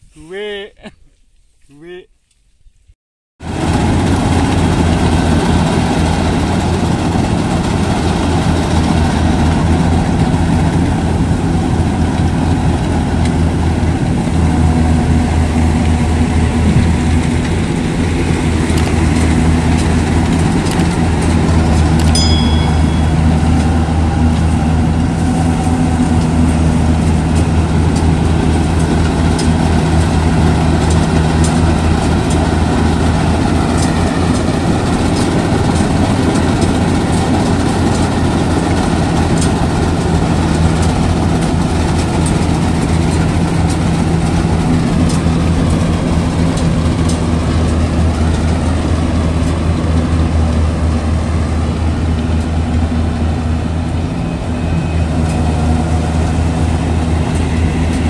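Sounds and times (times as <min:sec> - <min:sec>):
combine harvester engine and machinery: 0:03.4 - 0:58.0.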